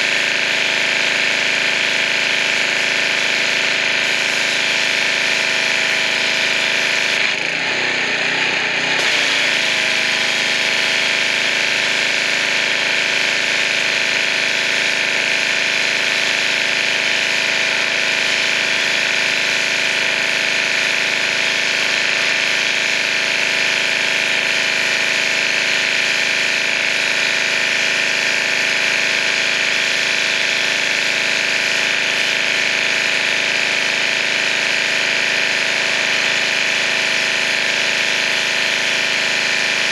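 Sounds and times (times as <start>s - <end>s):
pressure washer motor drone: 0.0s - 39.9s.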